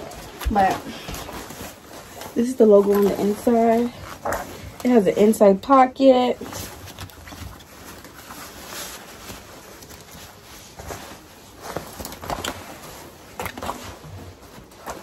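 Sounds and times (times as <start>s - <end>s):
coat fabric rustling: 0.0s - 15.0s.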